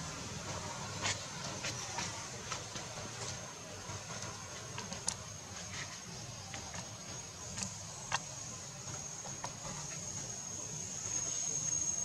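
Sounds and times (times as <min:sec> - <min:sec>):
steady high-pitched hum: 0:00.0 - 0:12.0.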